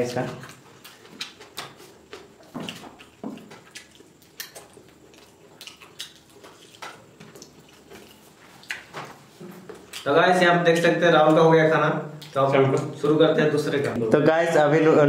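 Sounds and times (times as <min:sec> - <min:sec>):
wet chewing: 0:00.1 - 0:13.1.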